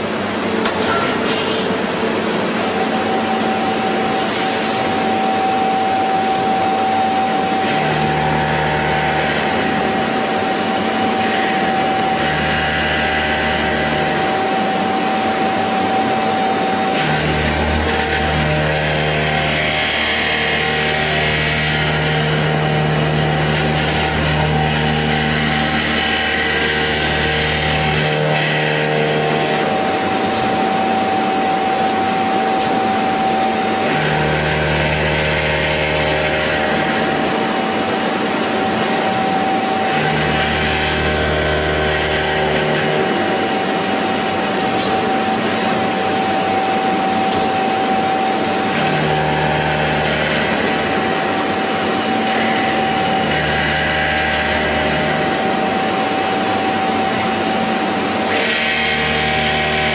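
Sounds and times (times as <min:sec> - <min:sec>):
cnc machine high whine: 0:00.0 - 0:59.9.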